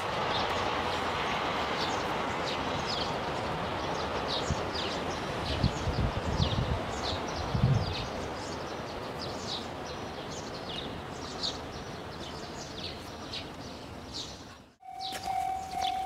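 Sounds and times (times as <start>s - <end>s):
steady outdoor rush of noise: 0.0s - 16.0s
small birds chirping: 0.3s - 16.0s.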